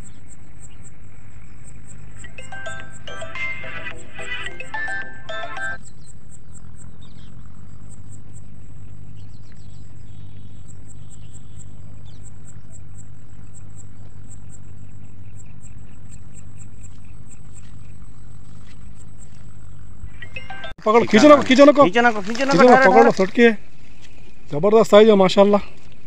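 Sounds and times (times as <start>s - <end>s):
insects chirping: 0.0s - 26.0s
steady low hum: 0.0s - 26.0s.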